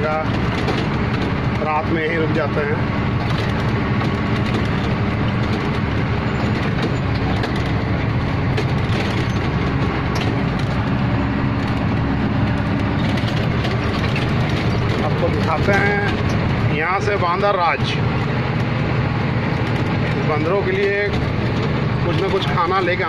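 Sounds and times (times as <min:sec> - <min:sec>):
cab clicks and rattles: 0:00.0 - 0:23.0
diesel truck engine running: 0:00.0 - 0:23.0.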